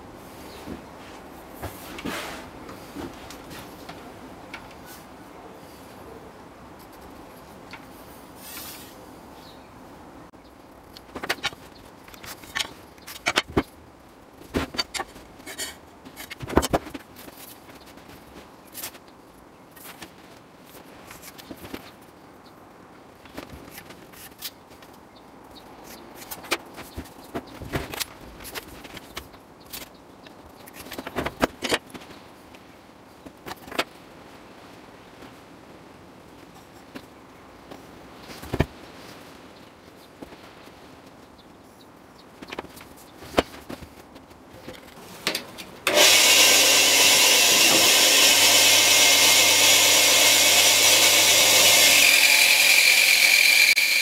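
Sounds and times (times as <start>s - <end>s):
faint room hiss: 0.0s - 45.9s.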